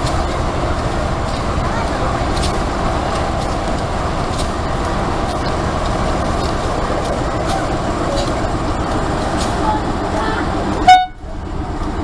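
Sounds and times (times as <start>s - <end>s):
locomotive engine rumbling: 0.0s - 12.0s.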